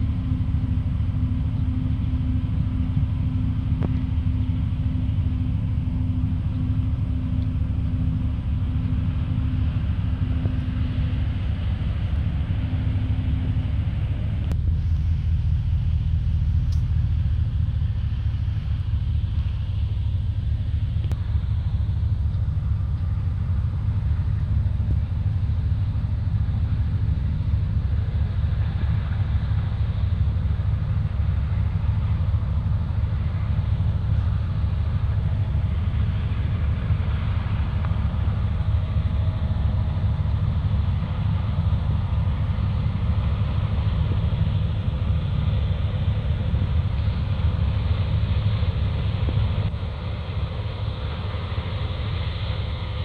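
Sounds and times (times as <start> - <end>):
distant farm machinery: 0.0 - 53.0.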